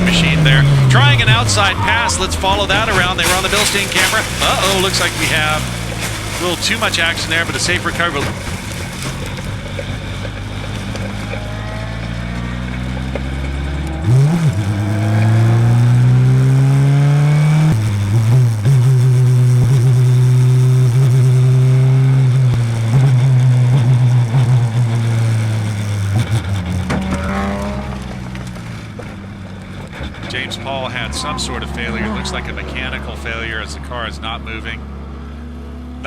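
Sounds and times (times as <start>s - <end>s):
race car engine at full throttle: 0.0s - 36.0s.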